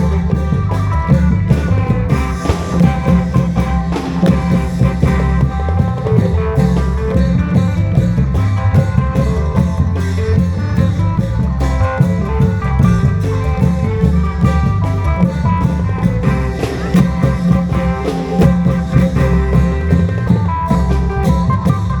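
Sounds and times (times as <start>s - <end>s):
folk drum troupe music: 0.0s - 22.0s
melody line with heavy bass: 0.0s - 22.0s.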